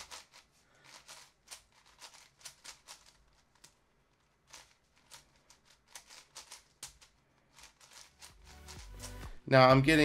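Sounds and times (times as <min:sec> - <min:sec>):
plastic puzzle cube turning: 0:00.0 - 0:09.2.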